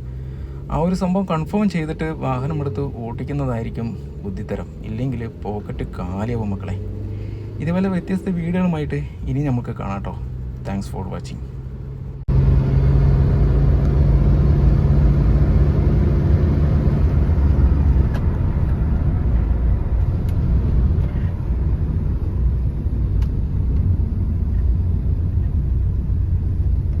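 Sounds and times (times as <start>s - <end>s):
car engine and road rumble: 0.0s - 27.0s
low hum: 0.0s - 27.0s.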